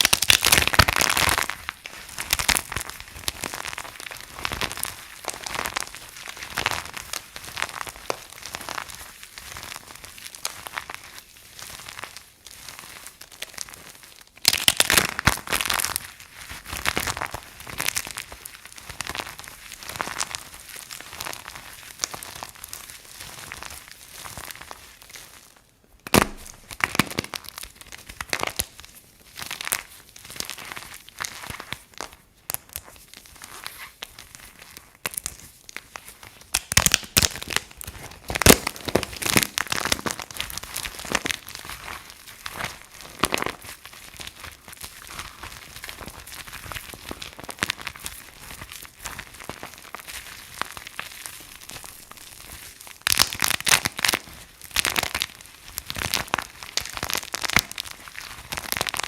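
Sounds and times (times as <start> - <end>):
dry soap crunching: 0.0 - 59.0.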